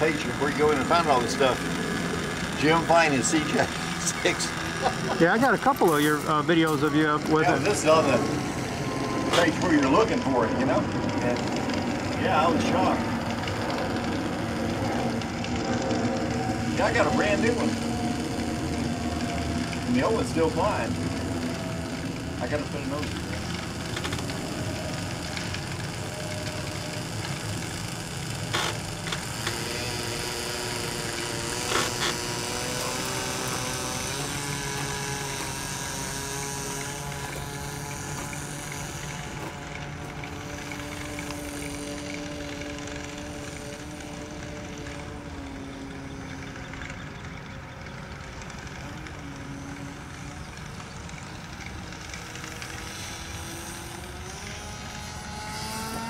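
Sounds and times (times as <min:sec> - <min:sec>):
model plane engine running: 0:00.0 - 0:56.0.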